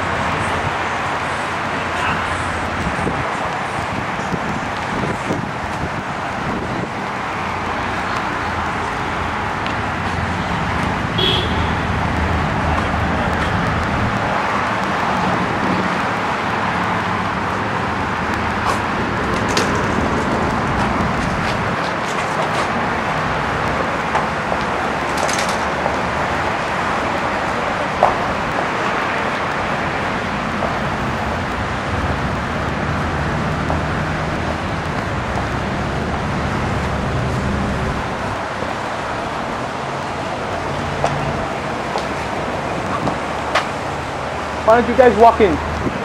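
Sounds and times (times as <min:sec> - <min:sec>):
street traffic hum: 0:00.0 - 0:46.0.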